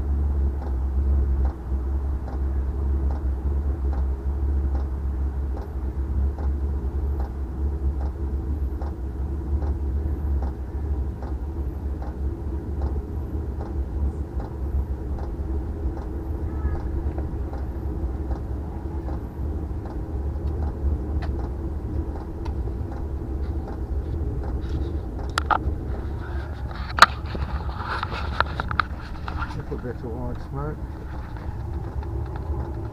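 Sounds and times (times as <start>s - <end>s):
air heater rumble: 0.0s - 32.9s
fuel pump ticking: 0.0s - 32.9s.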